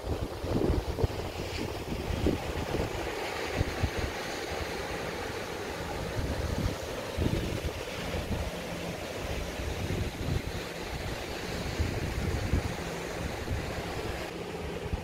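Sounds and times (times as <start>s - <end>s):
surf breaking over rocks: 0.0s - 14.3s
wind buffeting microphone: 0.0s - 15.0s.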